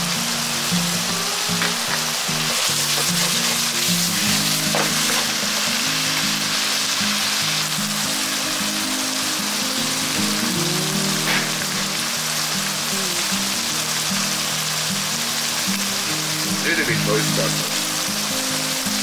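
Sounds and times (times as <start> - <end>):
background music: 0.0 - 19.0
stir-fry sizzling in a frying pan: 0.0 - 19.0.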